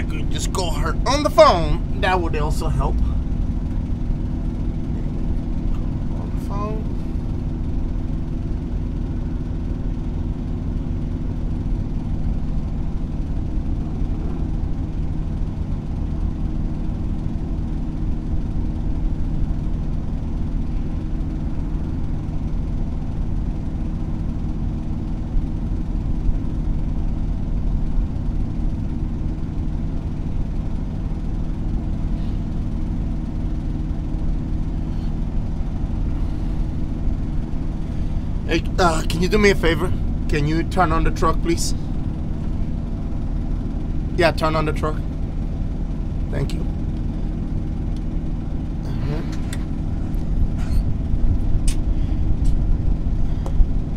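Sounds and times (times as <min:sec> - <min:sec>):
large engine idling: 0:00.0 - 0:53.9.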